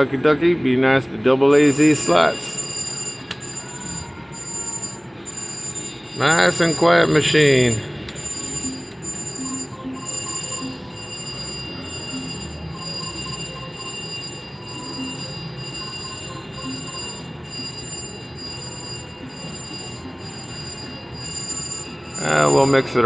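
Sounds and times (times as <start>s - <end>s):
quiet jingle: 1.5s - 23.0s
steady background drone: 1.5s - 23.0s
slot machine chimes and beeps: 1.6s - 23.0s.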